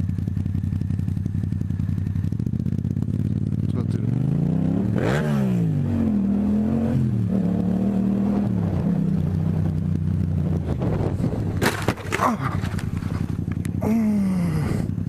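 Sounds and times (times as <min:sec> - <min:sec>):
motorcycle engine: 0:00.0 - 0:15.0.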